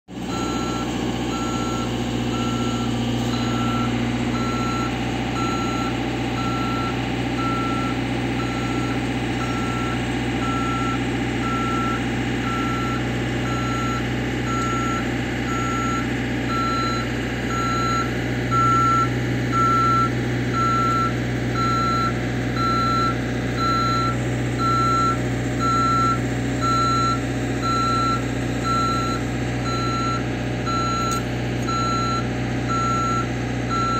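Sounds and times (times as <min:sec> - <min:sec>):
engine running under load: 0:00.1 - 0:33.9
motion alarm beeping: 0:00.3 - 0:33.9.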